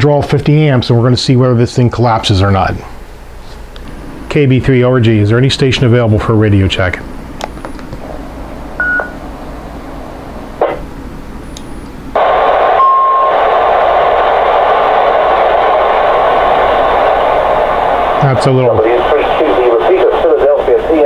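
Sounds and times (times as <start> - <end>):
receiver static hiss: 0.0 - 21.0.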